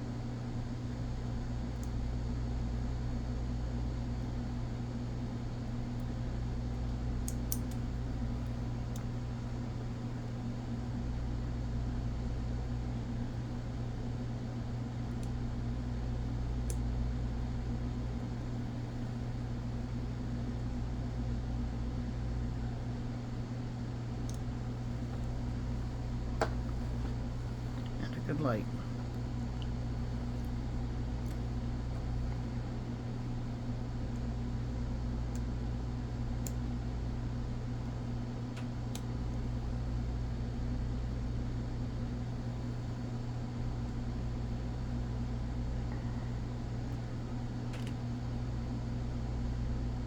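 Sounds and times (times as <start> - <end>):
low fan hum: 0.0 - 50.0.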